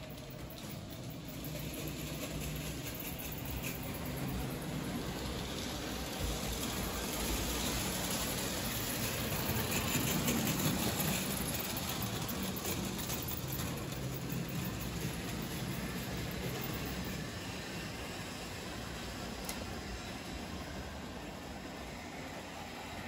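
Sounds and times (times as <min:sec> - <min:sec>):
rattle of train wheels: 0:00.0 - 0:23.0.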